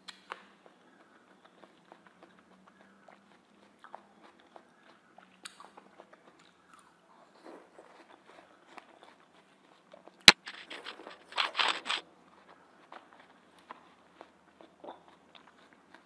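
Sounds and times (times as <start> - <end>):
chewing watermelon: 0.0 - 16.0
faint low hum: 0.0 - 16.0.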